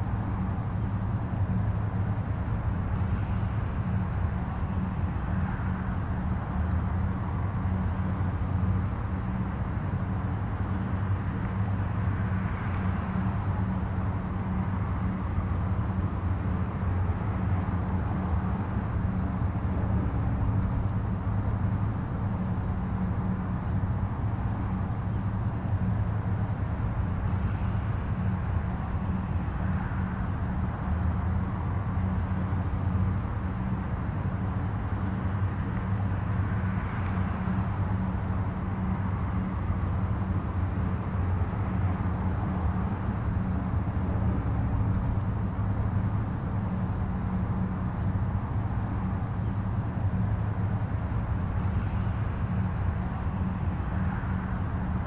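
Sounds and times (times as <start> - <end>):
distant highway traffic rumble: 0.0 - 55.0.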